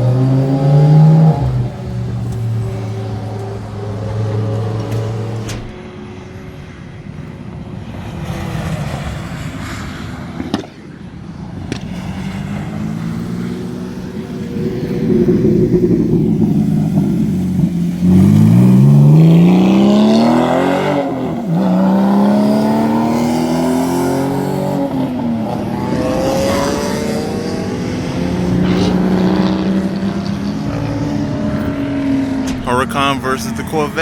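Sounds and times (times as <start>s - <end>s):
sports cars accelerating past: 0.0s - 34.0s.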